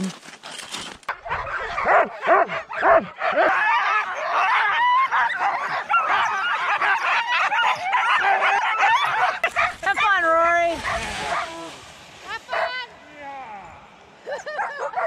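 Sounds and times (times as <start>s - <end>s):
sled dogs barking and yipping: 1.1s - 15.0s.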